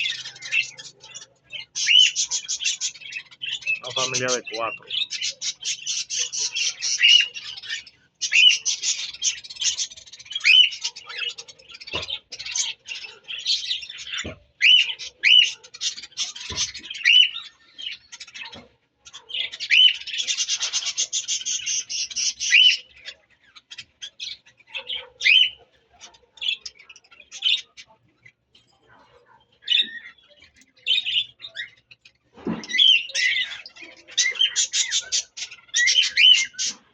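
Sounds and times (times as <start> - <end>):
budgerigars chattering: 0.0 - 28.3, 28.9 - 36.9.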